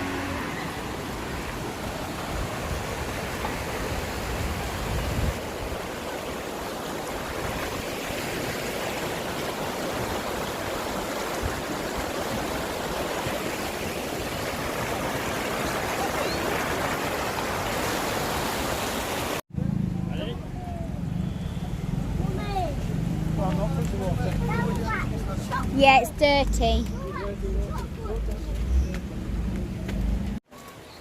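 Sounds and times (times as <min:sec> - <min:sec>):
mountain stream rushing: 0:00.0 - 0:19.4, 0:22.2 - 0:31.0.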